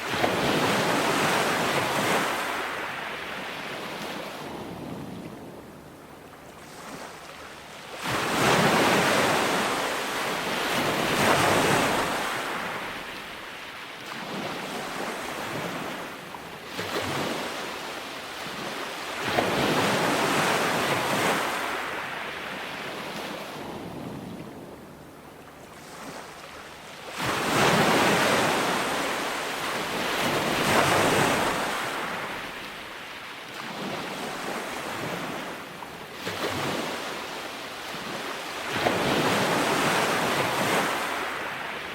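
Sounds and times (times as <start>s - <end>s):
ocean waves crashing on beach: 0.0s - 41.9s.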